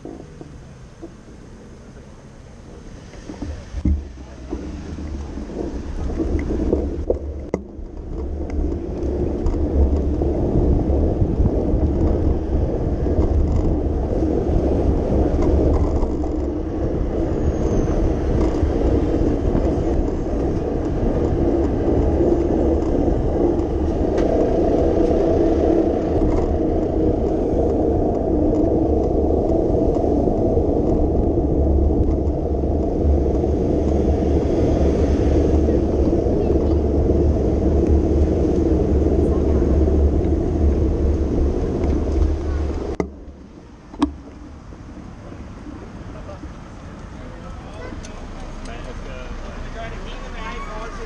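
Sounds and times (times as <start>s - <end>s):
city traffic rumble: 0.0s - 51.0s
wind buffeting microphone: 0.0s - 51.0s.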